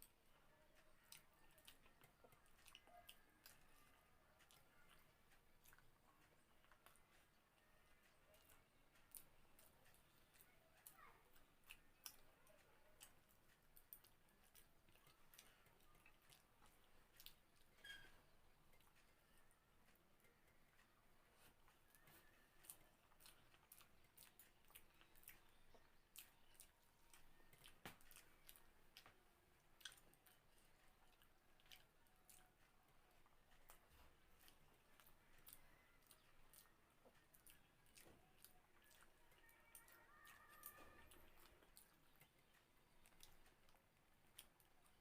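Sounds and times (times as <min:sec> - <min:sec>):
person chewing food: 0:00.0 - 0:45.0.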